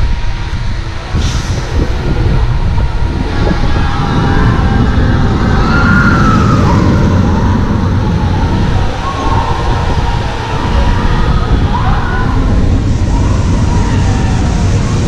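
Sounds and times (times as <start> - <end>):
roller coaster train rumbling past: 0.0 - 15.0.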